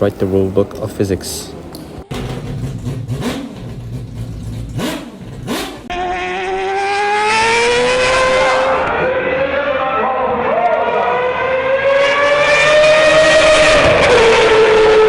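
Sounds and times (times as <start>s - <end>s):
race car engine revving: 2.0s - 15.0s.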